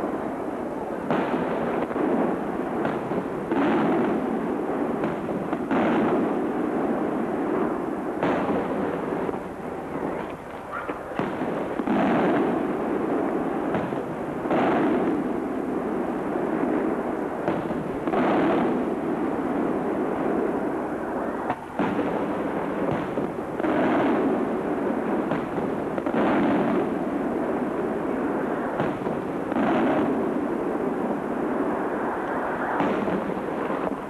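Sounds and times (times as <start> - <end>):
firework shells booming: 0.8 - 34.0
sharp firework cracks: 0.9 - 34.0.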